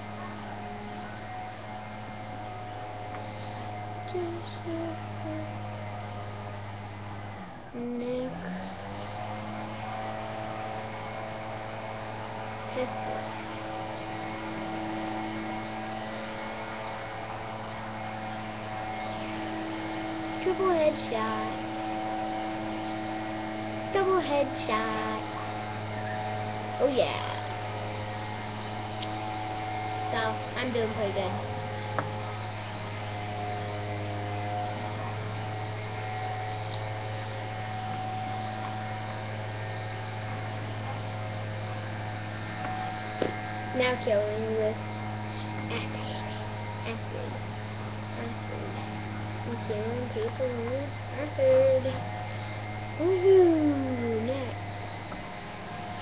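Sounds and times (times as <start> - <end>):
electrical hum with held tones: 0.0 - 56.0.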